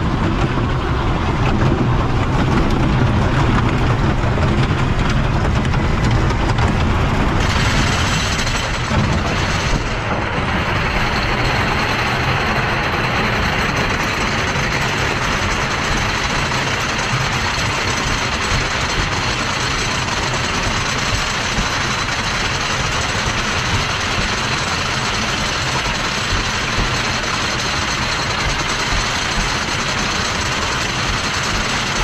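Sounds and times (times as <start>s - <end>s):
lift hill chain: 0.0s - 32.0s
roller coaster train rumbling: 0.0s - 32.0s.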